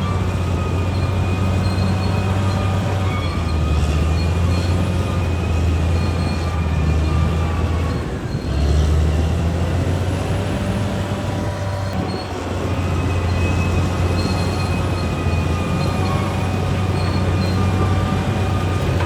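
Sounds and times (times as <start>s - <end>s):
bulldozer engine droning: 0.0s - 19.0s
tracks squealing: 0.0s - 19.0s.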